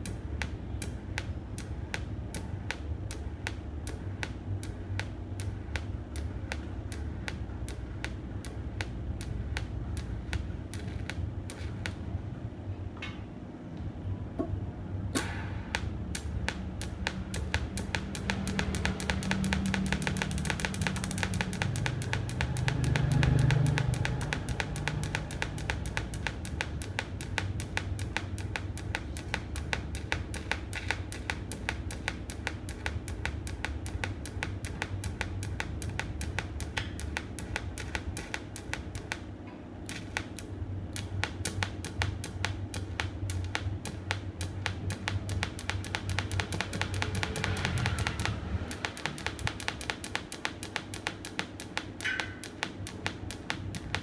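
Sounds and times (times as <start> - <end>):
welding arc ticking: 0.0 - 12.2, 15.2 - 54.0.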